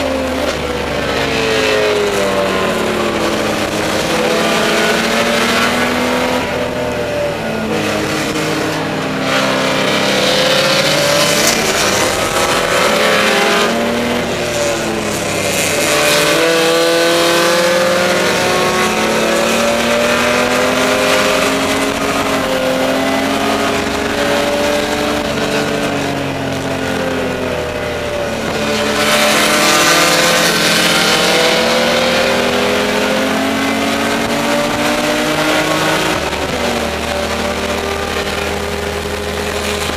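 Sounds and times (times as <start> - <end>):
race car engine revving: 0.0 - 39.9
rushing wind: 0.0 - 39.9.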